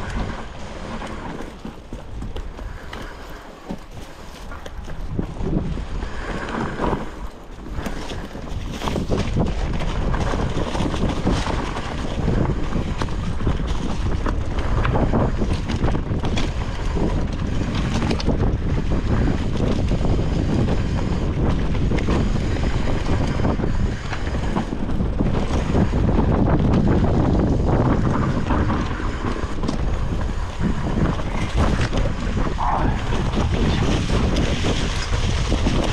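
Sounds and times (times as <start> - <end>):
bike rattling and knocking: 0.0 - 35.9
bike tyres rolling over dirt: 0.0 - 35.9
wind noise on microphone: 0.0 - 35.9.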